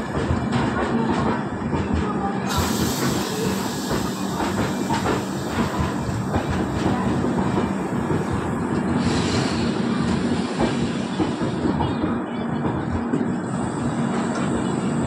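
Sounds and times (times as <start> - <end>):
train wheels clattering over rail joints: 0.0 - 14.6.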